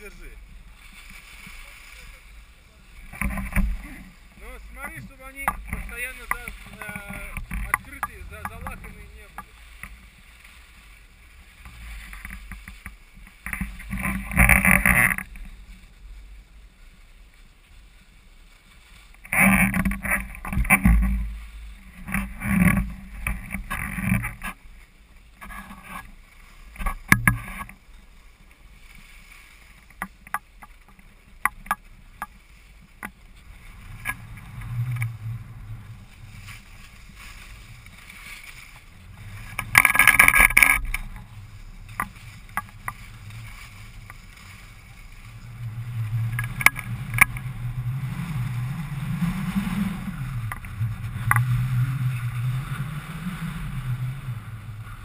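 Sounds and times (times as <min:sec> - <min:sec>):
skis scraping over snow: 0:00.0 - 0:55.0.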